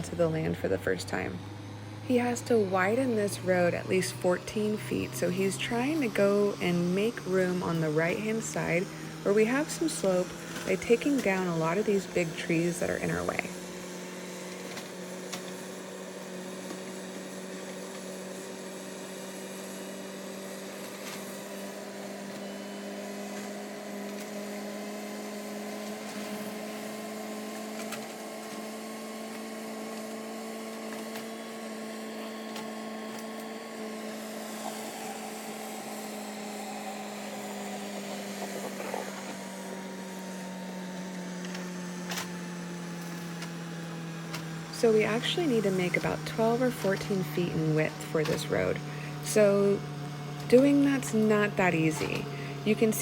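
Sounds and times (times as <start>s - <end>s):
motor hum: 0.0s - 53.0s.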